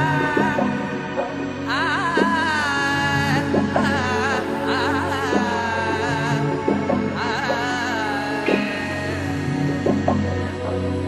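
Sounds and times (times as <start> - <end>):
slow held chords: 0.0 - 11.0.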